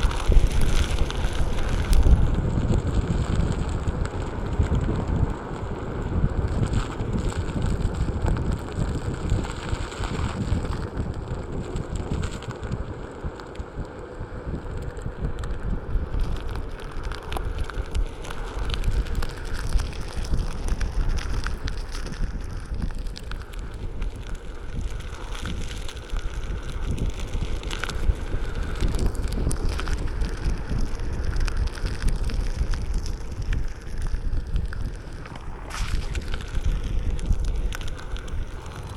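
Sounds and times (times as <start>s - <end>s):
tyre crackling over rough trail: 0.0s - 38.9s
wind buffeting microphone: 0.0s - 38.9s.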